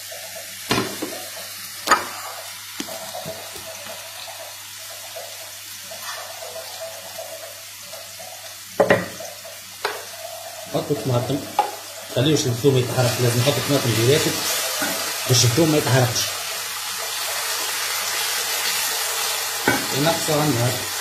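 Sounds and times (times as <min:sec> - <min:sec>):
onion sizzling in frying pan: 0:00.0 - 0:21.0.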